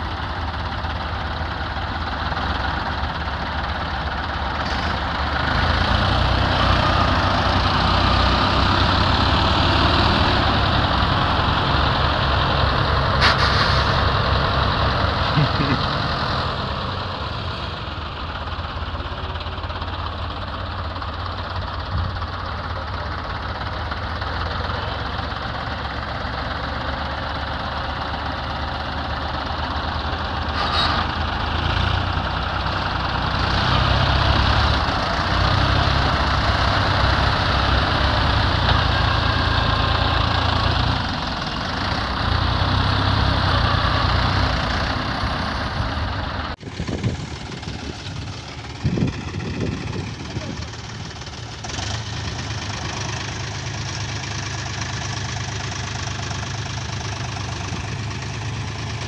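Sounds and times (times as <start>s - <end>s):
tractor diesel engines straining: 0.0s - 59.0s.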